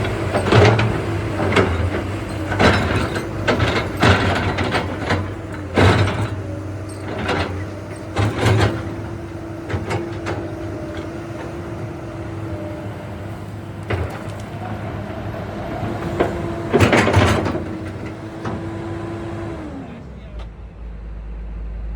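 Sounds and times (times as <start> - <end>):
excavator whining: 0.0 - 20.8
excavator working bursts: 0.0 - 20.8.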